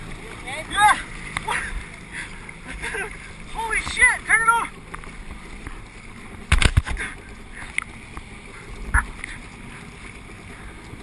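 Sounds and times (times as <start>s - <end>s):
jet skis thumping on waves: 0.0s - 11.0s
rushing water and wind: 0.0s - 11.0s.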